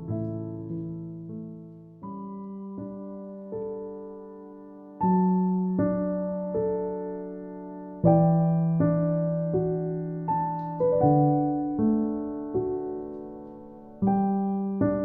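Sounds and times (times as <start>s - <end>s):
slow gentle piano melody: 0.0s - 15.0s.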